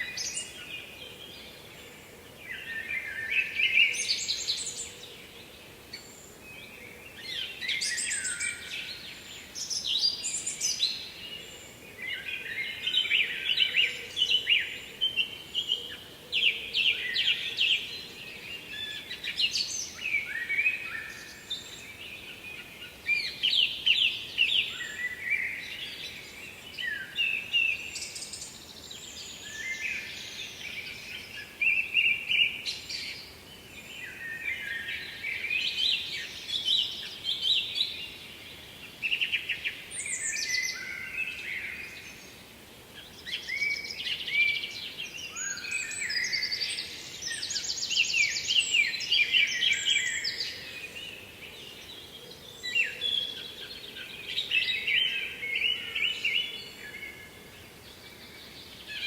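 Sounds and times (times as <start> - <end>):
faint steady background hiss: 0.0 - 59.0
songbirds singing: 0.0 - 59.0.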